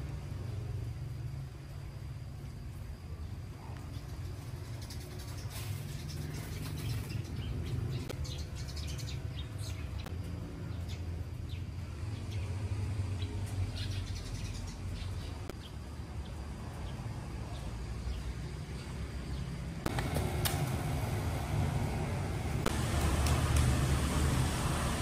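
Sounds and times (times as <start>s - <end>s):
low outdoor rumble: 0.0s - 25.0s
birds chirping: 2.7s - 25.0s.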